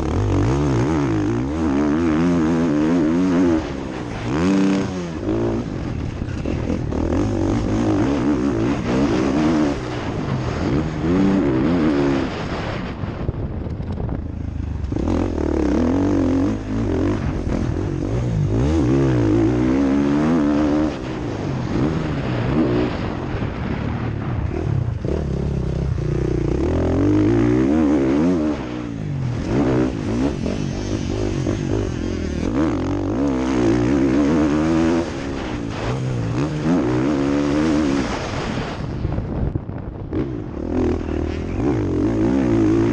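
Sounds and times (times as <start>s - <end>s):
motocross bike engine revving: 0.0s - 13.0s, 14.6s - 39.0s, 40.1s - 42.9s.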